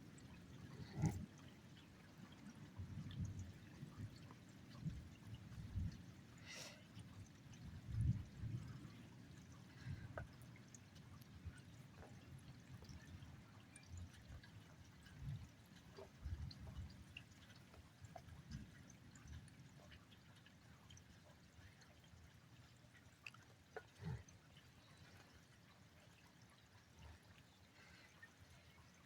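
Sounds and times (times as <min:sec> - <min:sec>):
rain dripping and pattering: 0:00.0 - 0:29.0.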